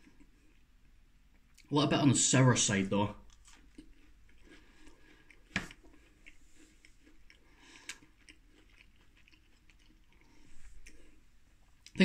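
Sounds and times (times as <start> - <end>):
soft wet chewing: 0.0 - 1.8, 3.2 - 12.0.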